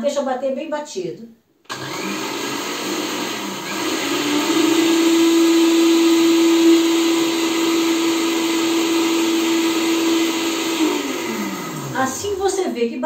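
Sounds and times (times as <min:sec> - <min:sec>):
blender motor running: 0:01.7 - 0:12.8
blender motor spinning down: 0:01.7 - 0:12.8.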